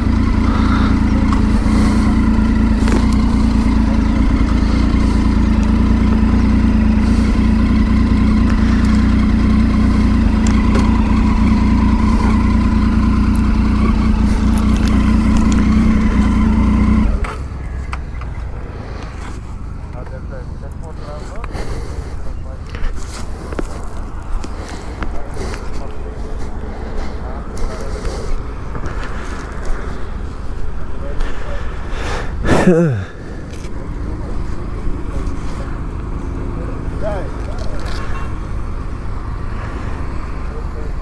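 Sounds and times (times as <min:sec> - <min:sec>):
motorcycle engine cruising: 0:00.0 - 0:41.0
road and wind noise: 0:00.0 - 0:41.0.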